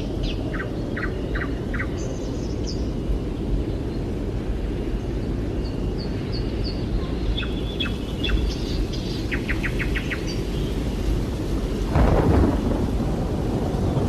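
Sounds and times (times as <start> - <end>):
small birds chirping: 0.0 - 11.3
steady low rumbling noise: 0.0 - 14.0.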